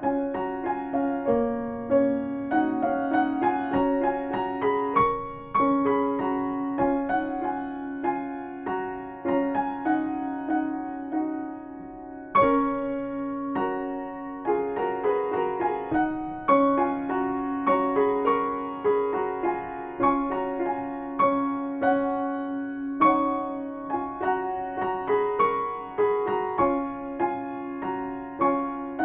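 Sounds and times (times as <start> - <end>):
slow solo piano piece: 0.0 - 29.0.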